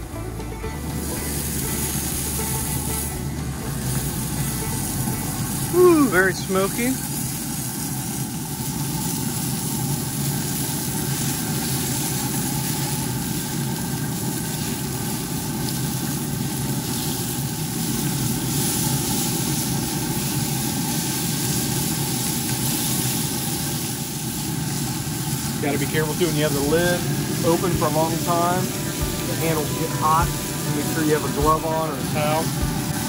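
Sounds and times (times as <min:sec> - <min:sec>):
smoker fan humming: 0:00.0 - 0:33.0.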